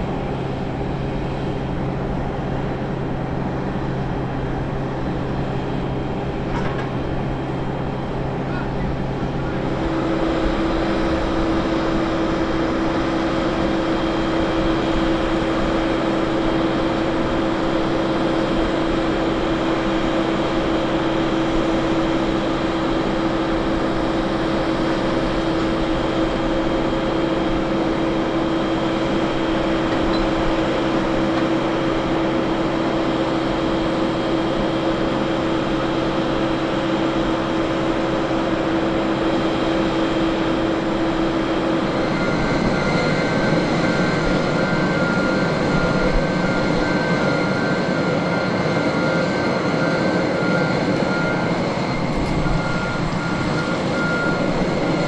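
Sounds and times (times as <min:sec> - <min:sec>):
auxiliary power unit whine: 0:00.0 - 0:55.0.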